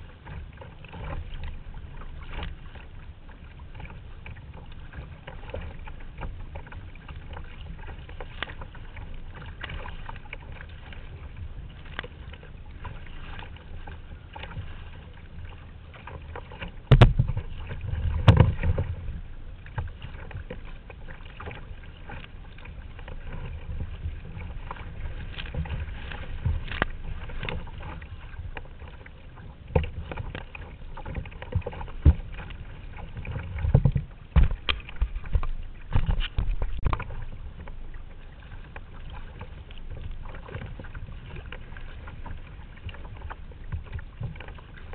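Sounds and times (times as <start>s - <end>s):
paddle splashing in water: 0.0s - 44.9s
water lapping against hull: 0.0s - 44.9s.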